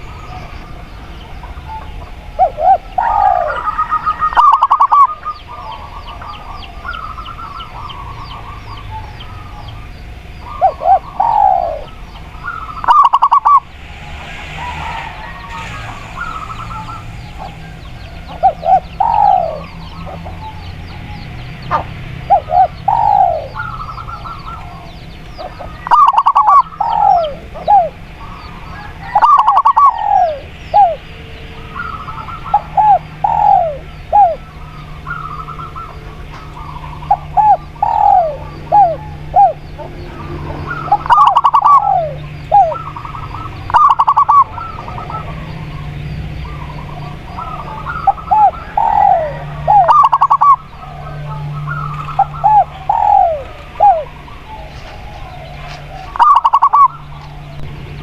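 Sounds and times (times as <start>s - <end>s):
faint high chirping: 0.0s - 57.7s
doves cooing: 0.0s - 58.0s
steady low hum: 0.0s - 58.0s.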